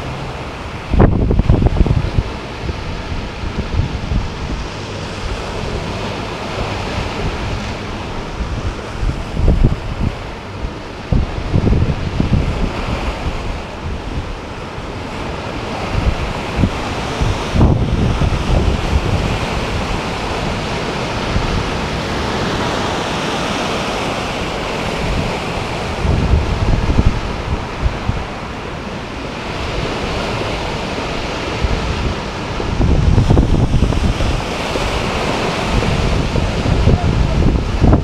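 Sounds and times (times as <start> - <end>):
waves washing over shingle: 0.0 - 38.0
wind buffeting microphone: 0.0 - 38.0.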